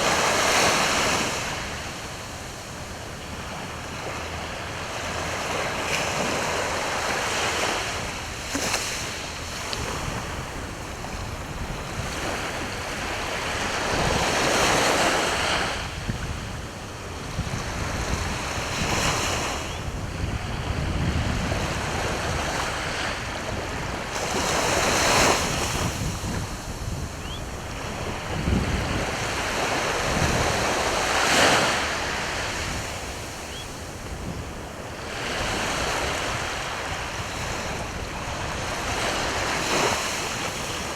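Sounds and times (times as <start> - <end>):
sea waves breaking on shore: 0.0 - 40.9
wind on microphone: 0.0 - 40.9.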